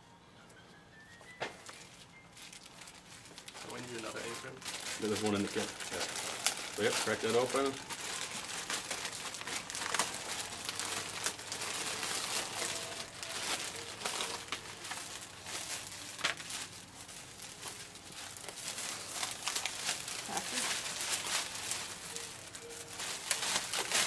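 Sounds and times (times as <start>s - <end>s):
plastic crinkling and rustling: 1.2s - 24.0s.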